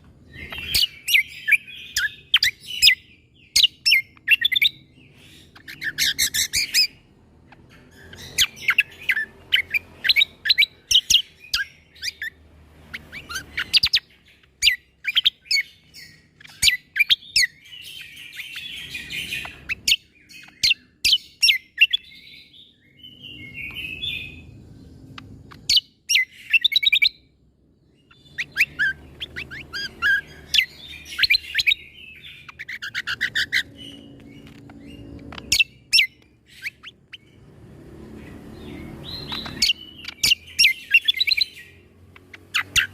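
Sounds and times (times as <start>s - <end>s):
bird chattering: 0.3s - 22.3s, 28.0s - 37.5s, 38.3s - 42.9s.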